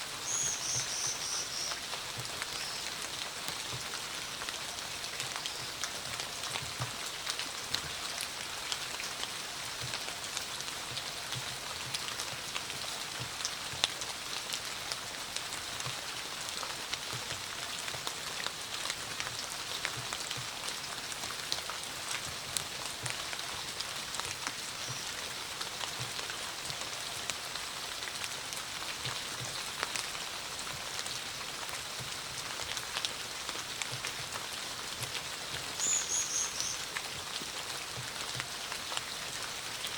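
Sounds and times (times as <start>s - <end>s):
rain hiss: 0.0s - 39.9s
raindrops clicking on surfaces: 0.2s - 39.9s.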